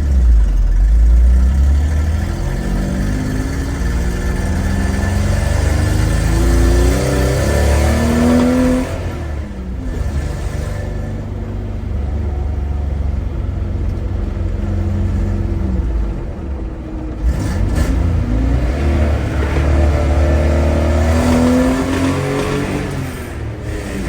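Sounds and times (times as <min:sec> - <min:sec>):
pickup engine revving through exhaust: 0:00.0 - 0:12.5, 0:17.1 - 0:24.0.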